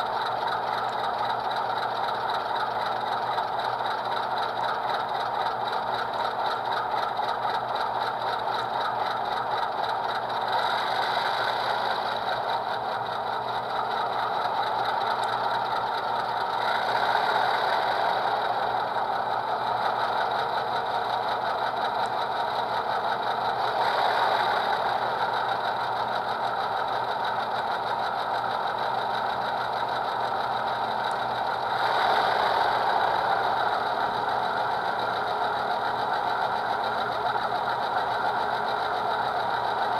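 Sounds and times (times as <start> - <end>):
diesel engine sound from small speaker: 0.0 - 39.9.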